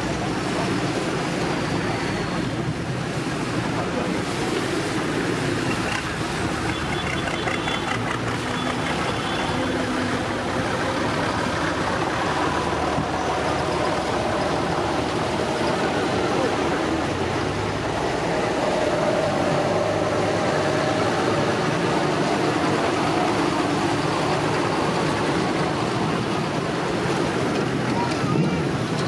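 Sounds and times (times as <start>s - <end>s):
tractors driving past: 0.0s - 29.0s.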